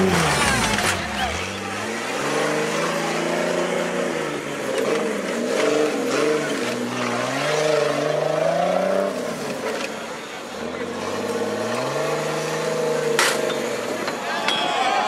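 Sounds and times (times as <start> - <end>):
buggy engine revving: 0.0 - 14.2.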